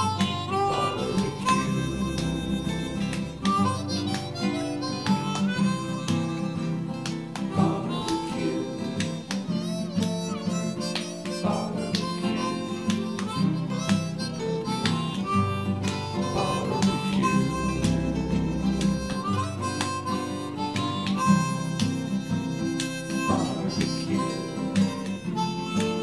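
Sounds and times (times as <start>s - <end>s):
guitar accompaniment: 0.0s - 26.0s
harmonica playing a tune: 0.0s - 26.0s.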